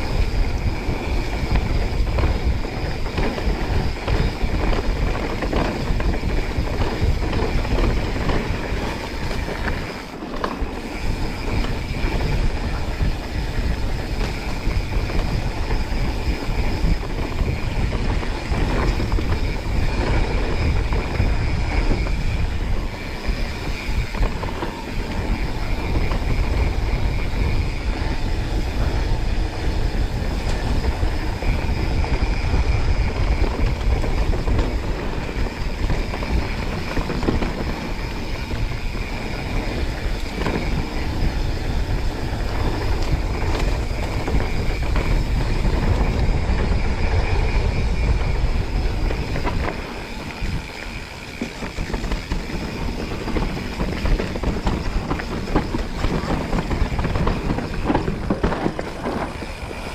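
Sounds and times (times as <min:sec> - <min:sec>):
bike rattling over rough ground: 0:00.0 - 0:59.9
tyre noise: 0:00.0 - 0:59.9
wind rushing on microphone: 0:00.0 - 0:59.9.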